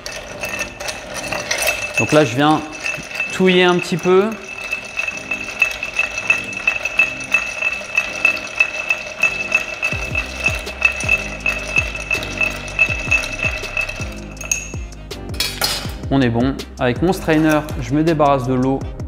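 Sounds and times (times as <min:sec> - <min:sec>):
ice clinking against glass: 0:00.0 - 0:15.9.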